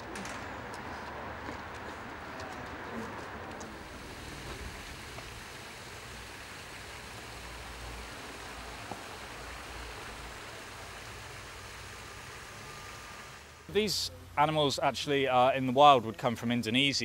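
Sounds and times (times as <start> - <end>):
steady background hiss: 3.1 - 17.0.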